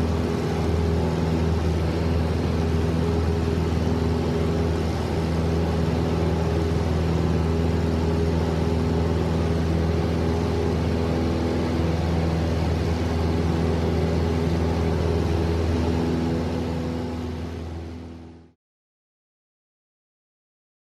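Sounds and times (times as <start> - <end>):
light aircraft engine drone: 0.0 - 18.6.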